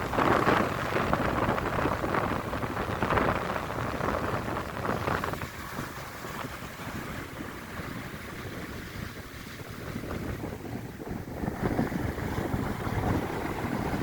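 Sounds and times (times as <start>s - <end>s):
sea waves breaking on shore: 0.0s - 14.0s
wind rumbling on microphone: 0.0s - 14.0s.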